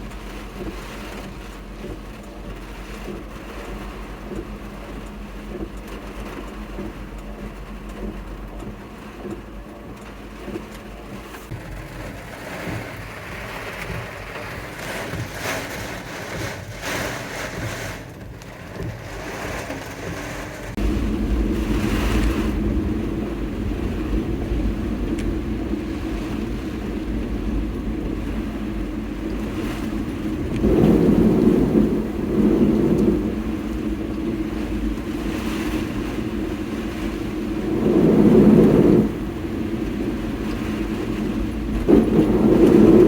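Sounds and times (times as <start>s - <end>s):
vehicle rumbling: 0.0s - 43.0s.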